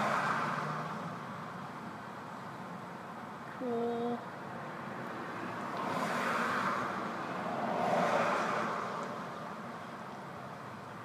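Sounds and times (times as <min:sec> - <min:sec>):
traffic rushing past: 0:00.0 - 0:11.0.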